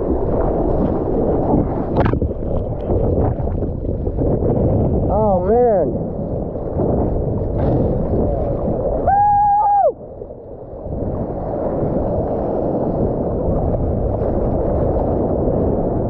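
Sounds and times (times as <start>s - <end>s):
seawater sloshing and splashing: 0.0s - 5.1s, 5.9s - 16.0s.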